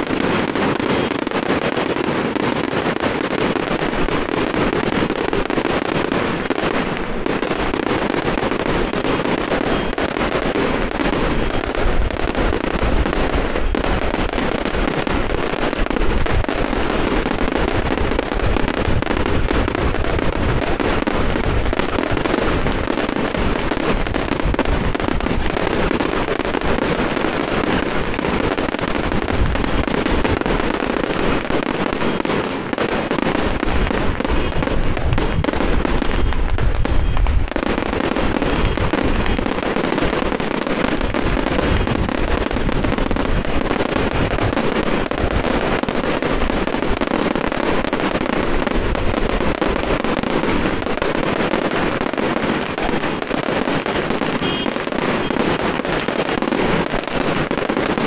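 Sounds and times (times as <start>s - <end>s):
firecrackers banging: 0.0s - 58.0s.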